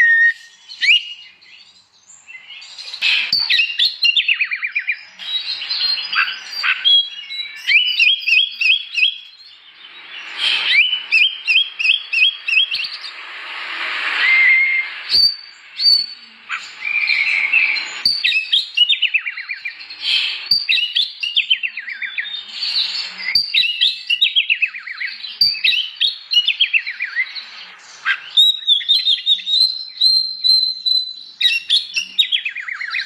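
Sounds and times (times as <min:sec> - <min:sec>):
bird singing whistled notes: 0:00.0 - 0:13.3, 0:14.0 - 0:33.0.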